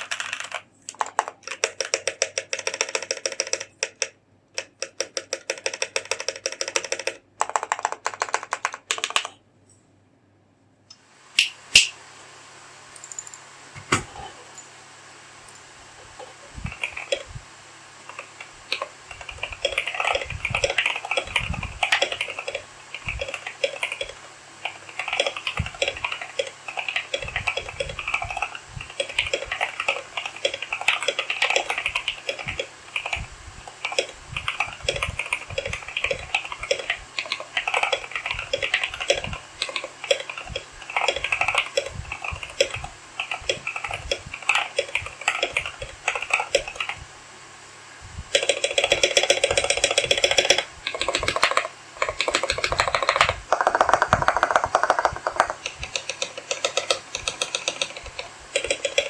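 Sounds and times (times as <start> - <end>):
mechanical keyboard typing: 0.0 - 9.4, 13.0 - 13.5, 15.5 - 47.0, 48.3 - 59.0.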